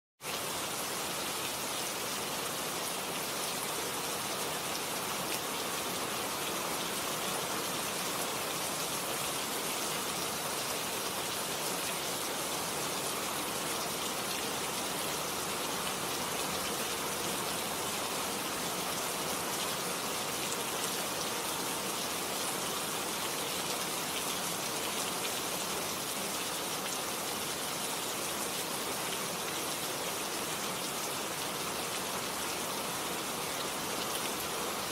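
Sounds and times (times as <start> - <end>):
rain on leaves and ground: 0.2 - 34.9.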